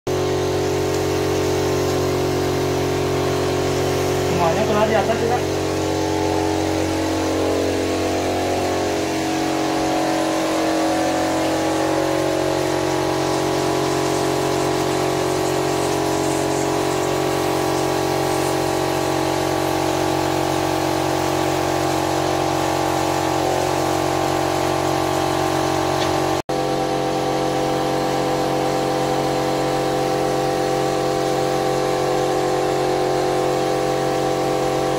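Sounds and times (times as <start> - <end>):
fogging machine engine drone: 0.1 - 34.9.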